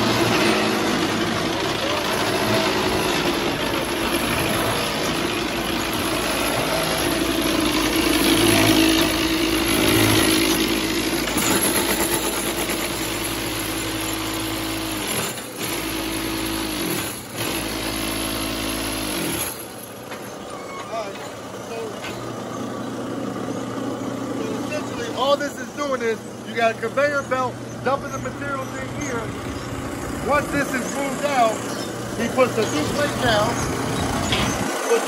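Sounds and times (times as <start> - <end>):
machine hum and clatter: 0.0 - 35.0.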